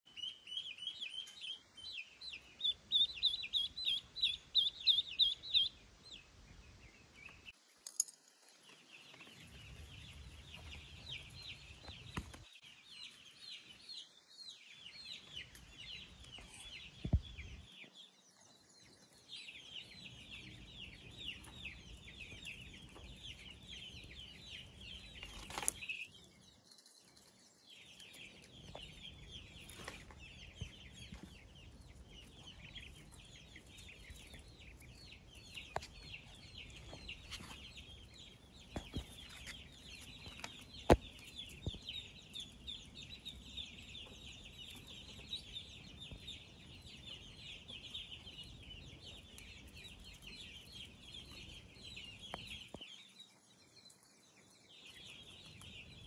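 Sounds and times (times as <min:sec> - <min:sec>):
ducklings peeping: 0:00.1 - 0:07.6, 0:08.9 - 0:26.6, 0:27.6 - 0:56.0.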